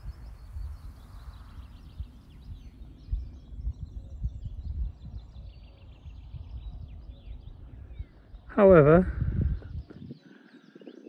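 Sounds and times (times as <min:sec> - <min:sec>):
small birds chirping: 0:00.0 - 0:11.0
wind gusts on microphone: 0:00.0 - 0:11.0.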